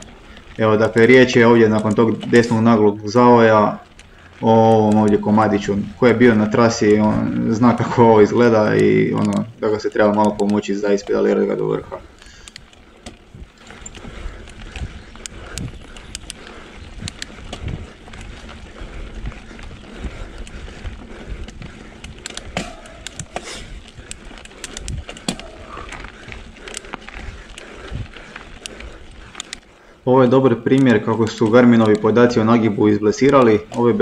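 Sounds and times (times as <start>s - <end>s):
bike tyres rolling over dirt: 0.0s - 34.0s
small clicks and knocks from bike: 0.0s - 34.0s.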